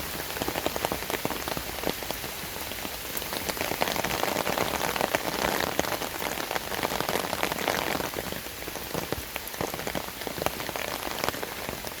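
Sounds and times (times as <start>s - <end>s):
rain drops falling: 0.0s - 12.0s.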